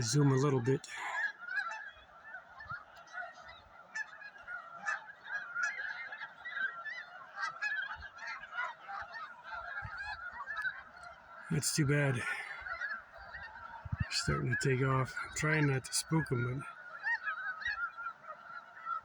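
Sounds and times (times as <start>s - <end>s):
flock of geese honking: 0.0s - 19.0s.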